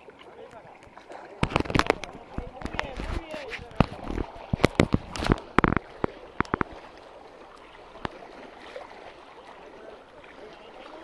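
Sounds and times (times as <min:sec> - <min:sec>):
water lapping around boat: 0:00.0 - 0:11.0.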